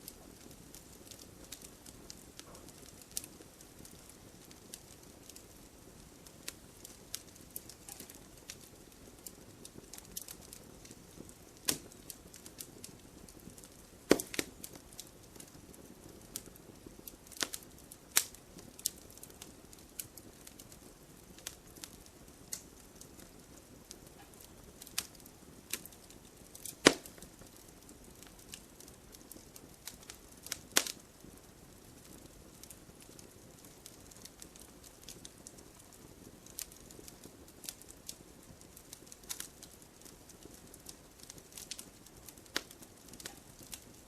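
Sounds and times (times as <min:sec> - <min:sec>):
campfire wood crackling: 0:00.0 - 0:44.0
fire hissing: 0:00.0 - 0:44.0.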